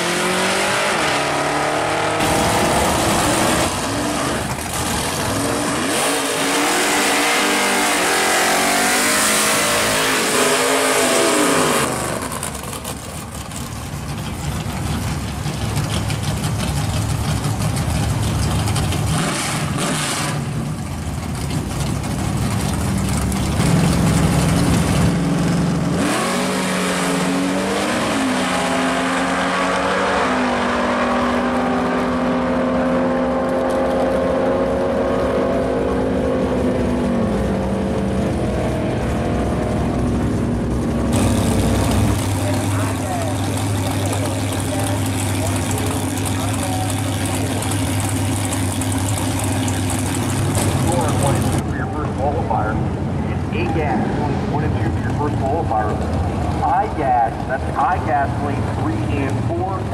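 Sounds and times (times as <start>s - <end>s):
drag car engines revving: 0.0s - 59.9s.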